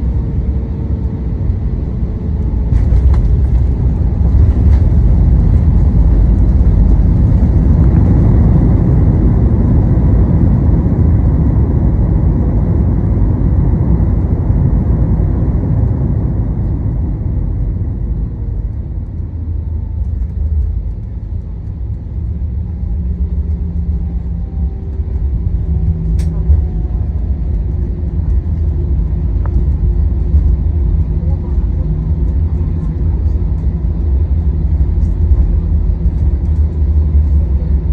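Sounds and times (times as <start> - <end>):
airliner engine and airflow rumble: 0.0 - 37.9
faint steady engine tones: 0.0 - 37.9.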